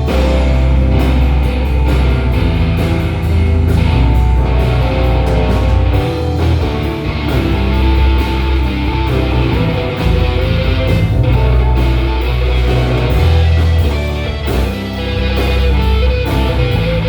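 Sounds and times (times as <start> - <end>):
bass guitar notes: 0.0 - 17.0
drum hits: 0.0 - 17.0
live band playing: 0.0 - 17.0.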